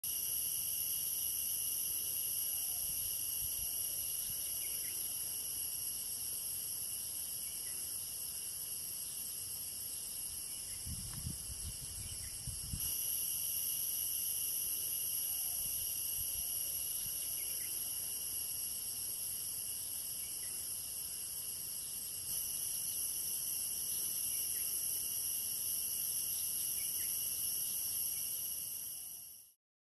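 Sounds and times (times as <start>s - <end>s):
insects chorus: 0.0s - 29.6s.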